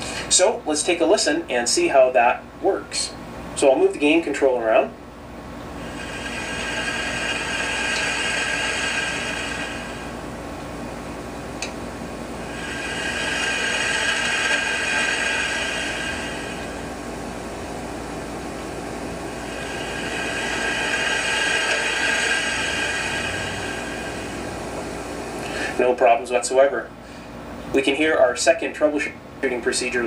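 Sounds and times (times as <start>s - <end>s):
speaker hiss and static: 0.0s - 27.0s, 27.6s - 30.0s.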